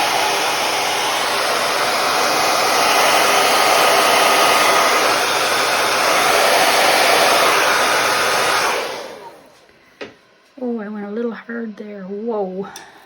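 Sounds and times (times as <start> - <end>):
hair dryer blowing: 0.0 - 10.6.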